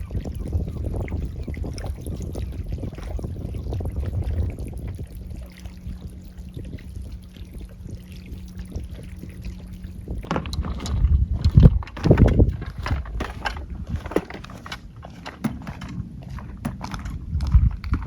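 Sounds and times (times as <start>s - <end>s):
water sloshing and splashing: 0.0s - 18.0s
wind rumbling on microphone: 0.0s - 18.0s.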